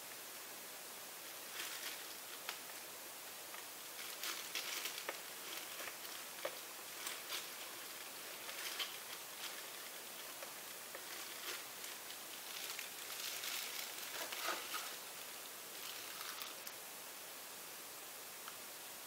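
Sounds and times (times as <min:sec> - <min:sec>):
steady low hiss: 0:00.0 - 0:19.0
plastic gloves crinkling: 0:01.2 - 0:16.8.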